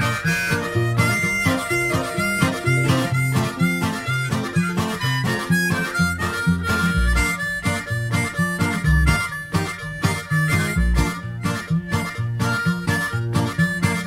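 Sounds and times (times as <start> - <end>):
harmonica melody: 0.0 - 14.0
pop-folk instrumental music: 0.0 - 14.0.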